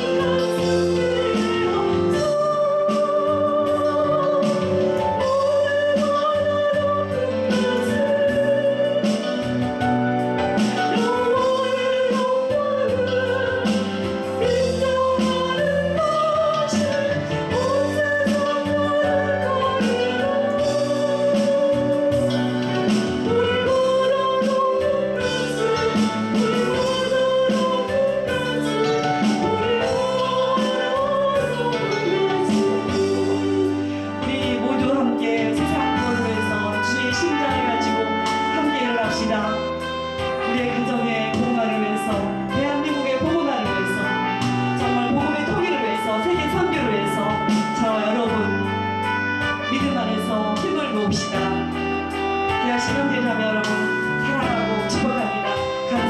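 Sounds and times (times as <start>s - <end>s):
instrumental accompaniment: 0.0s - 56.0s
woman singing with vibrato: 0.0s - 56.0s.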